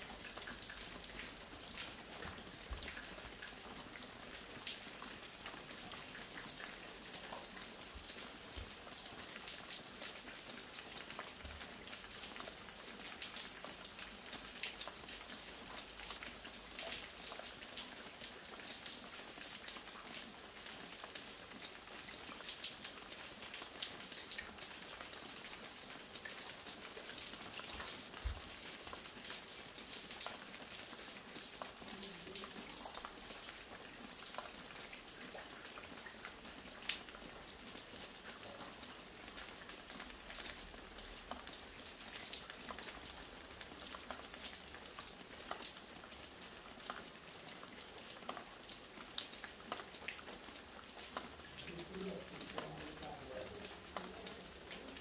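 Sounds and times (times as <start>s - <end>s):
light rain falling: 0.0s - 55.0s
water drips: 0.0s - 55.0s.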